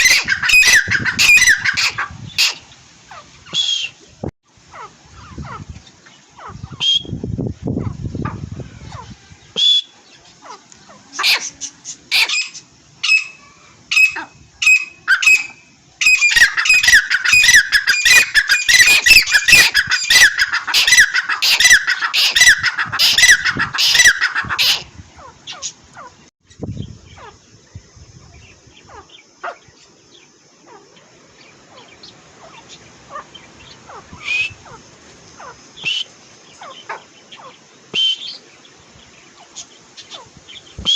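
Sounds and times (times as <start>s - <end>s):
francolins calling: 0.0s - 40.9s.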